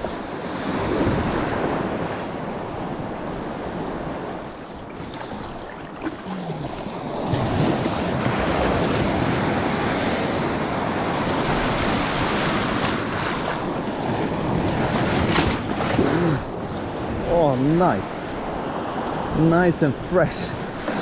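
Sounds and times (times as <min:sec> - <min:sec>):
waves splashing around legs: 0:00.7 - 0:21.0.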